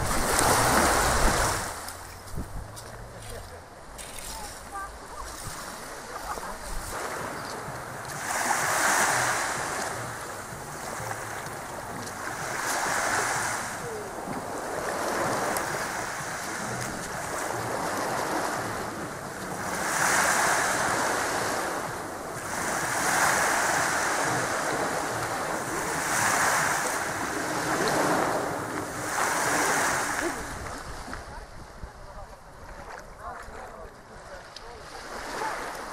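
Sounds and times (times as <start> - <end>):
small waves washing onto shore: 0.0 - 35.9.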